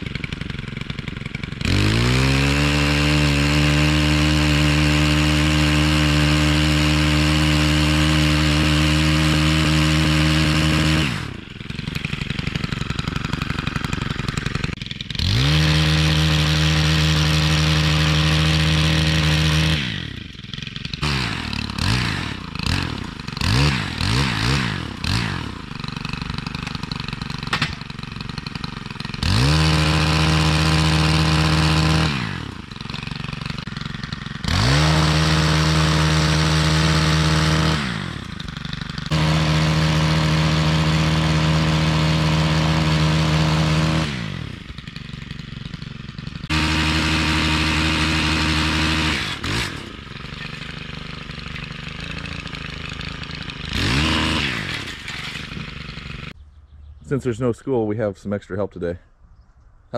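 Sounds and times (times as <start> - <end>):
pole saw engine revving: 0.0 - 56.4.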